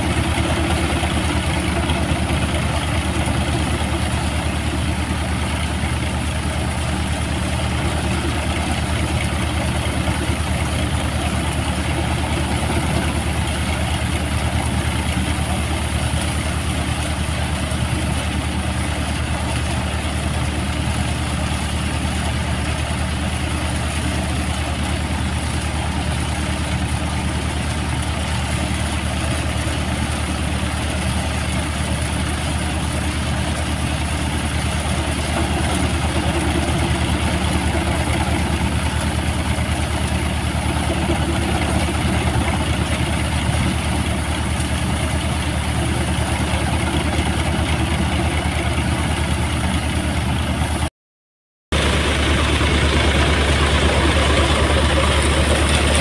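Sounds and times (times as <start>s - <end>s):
tractor diesel engine running: 0.0s - 50.9s, 51.7s - 56.0s.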